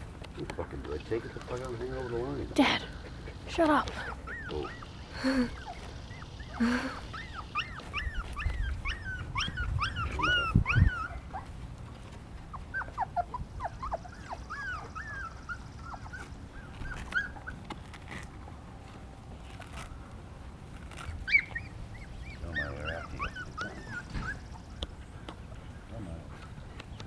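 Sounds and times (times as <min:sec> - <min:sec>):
puppies whining and yelping: 0:00.0 - 0:18.7, 0:20.8 - 0:27.0.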